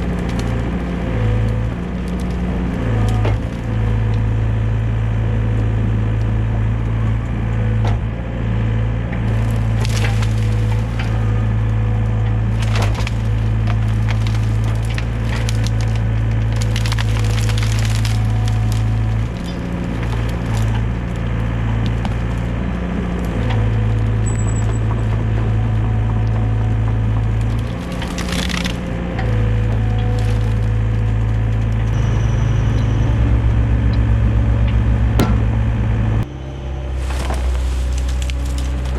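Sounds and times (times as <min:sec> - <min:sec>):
branches cracking and splintering: 0:00.0 - 0:07.9, 0:08.6 - 0:33.5, 0:36.2 - 0:38.9
excavator diesel engine running: 0:00.0 - 0:38.9.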